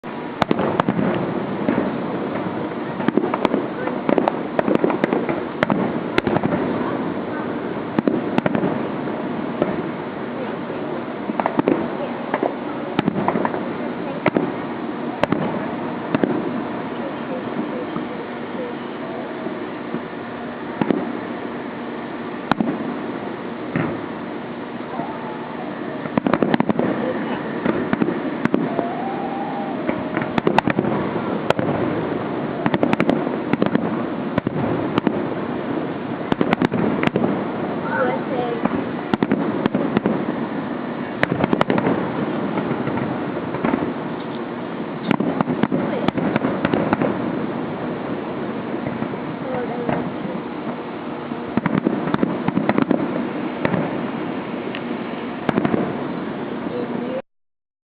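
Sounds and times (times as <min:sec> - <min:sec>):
background rumble: 0:00.0 - 0:57.2
crackling hiss: 0:00.0 - 0:57.2
fireworks cracking and popping: 0:00.0 - 0:57.2.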